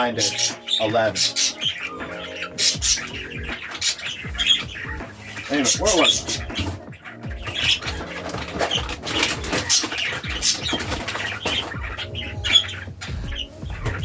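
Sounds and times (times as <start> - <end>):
budgerigars chattering and chirping: 0.0 - 14.0
wings fluttering and rustling: 0.0 - 14.0.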